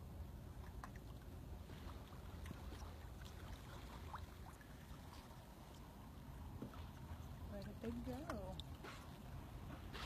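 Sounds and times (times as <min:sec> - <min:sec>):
low steady rumble: 0:00.0 - 0:10.0
water lapping against kayak: 0:00.3 - 0:10.0
small splashes: 0:00.5 - 0:09.3.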